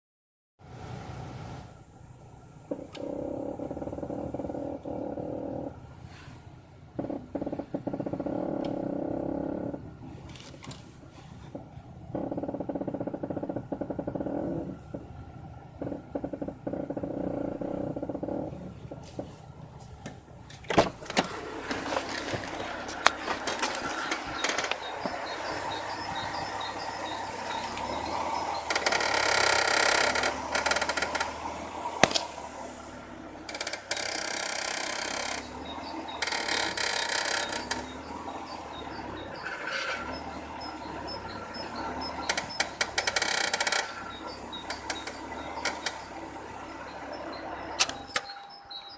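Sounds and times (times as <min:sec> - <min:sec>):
suspension ball joint squeaking: 0:02.4 - 0:48.9
harsh suspension creaking: 0:02.5 - 0:48.9.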